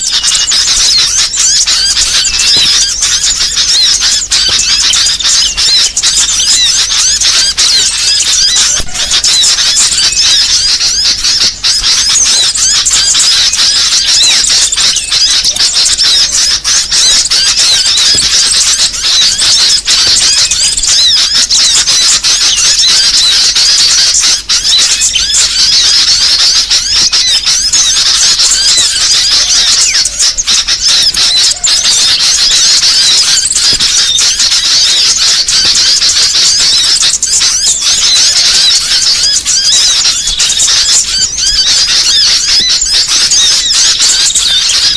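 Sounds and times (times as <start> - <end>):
small birds chirping and squeaking: 0.0 - 44.9.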